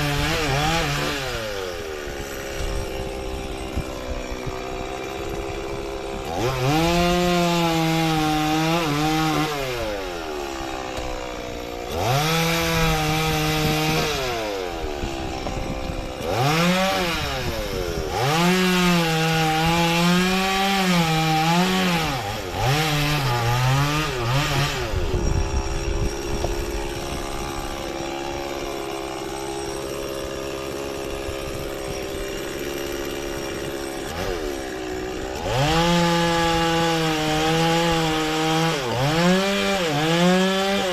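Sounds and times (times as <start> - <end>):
chainsaw cutting wood: 0.0 - 40.9
chainsaw idling: 0.0 - 40.9.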